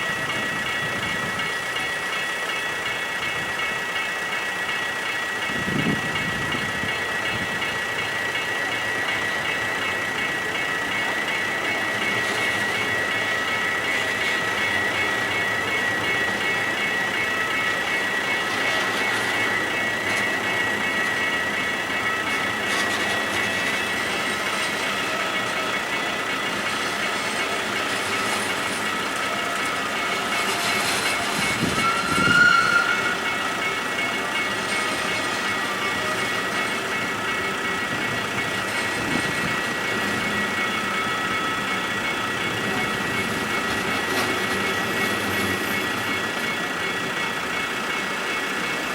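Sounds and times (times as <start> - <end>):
electric train passing: 0.0 - 48.9
steady high-pitched tones: 0.0 - 48.9.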